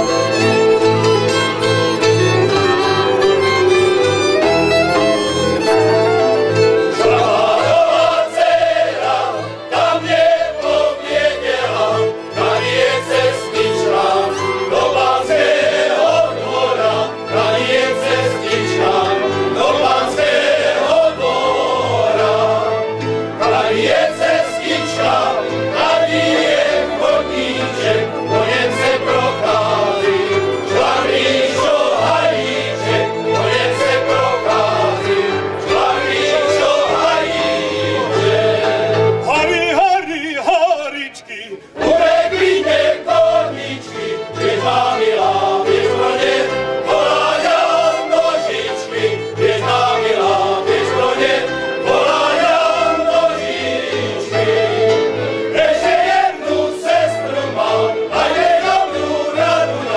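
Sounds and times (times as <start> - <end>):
men's choir singing folk song: 0.0 - 59.9.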